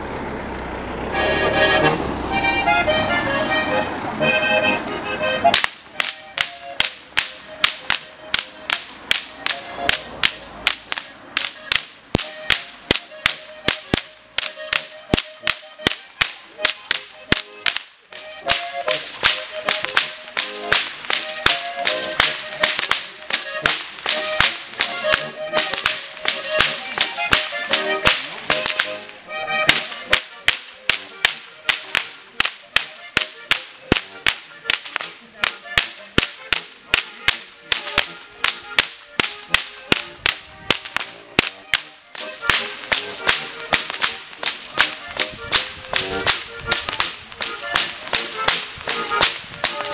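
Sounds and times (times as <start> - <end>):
accordion playing a tune: 0.6 - 49.9
whips cracking: 5.5 - 49.9.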